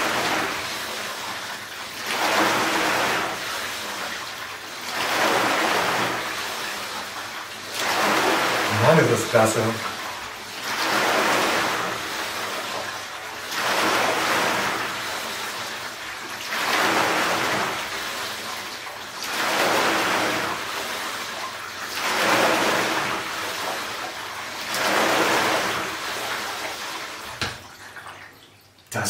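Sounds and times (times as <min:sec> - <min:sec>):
rowing machine water churning: 0:00.0 - 0:29.0.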